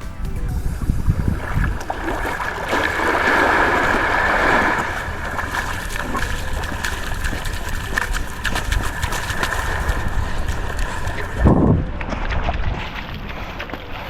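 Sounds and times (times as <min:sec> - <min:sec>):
rushing water: 0:00.0 - 0:14.0
water sloshing: 0:00.0 - 0:14.0
wind buffeting microphone: 0:00.0 - 0:14.0
paddle splashing: 0:00.1 - 0:14.0.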